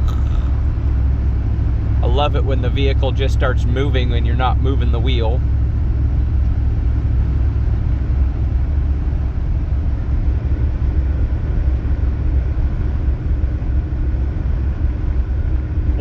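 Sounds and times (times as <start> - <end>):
vehicle rumbling through snow: 0.0 - 16.0.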